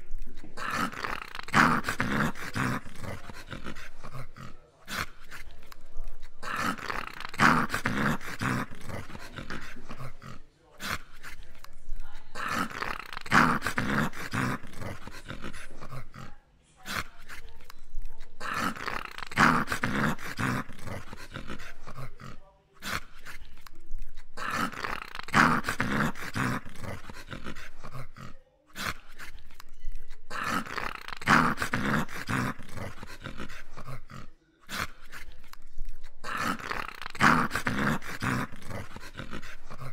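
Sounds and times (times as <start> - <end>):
dog play-growling: 0.0 - 39.9.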